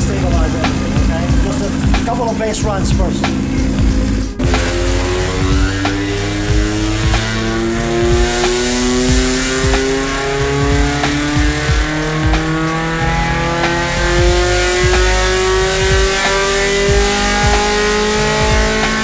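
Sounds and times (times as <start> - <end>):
race car engine revving under load: 0.0 - 19.0.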